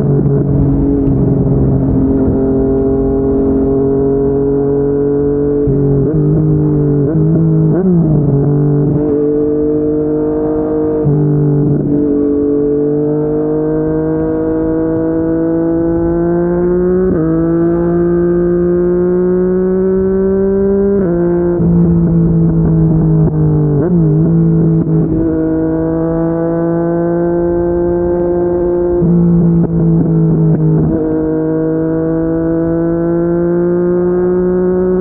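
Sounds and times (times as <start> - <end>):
motorcycle engine while riding: 0.0 - 35.0.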